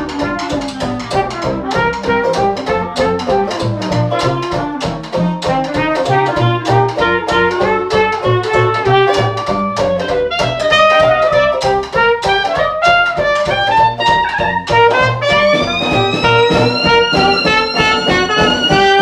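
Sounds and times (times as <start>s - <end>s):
banjo: 0.0s - 19.0s
clarinet: 0.0s - 19.0s
drums: 0.0s - 19.0s
string bass: 0.0s - 19.0s.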